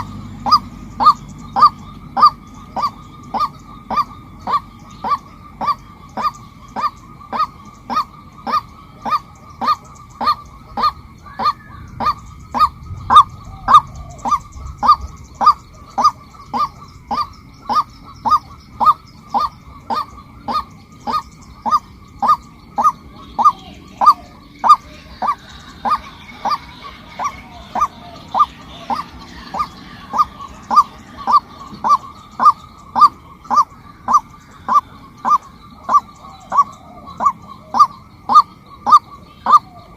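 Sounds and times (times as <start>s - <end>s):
faint high bird chatter: 0.0s - 39.9s
waterhen calling: 0.0s - 39.9s.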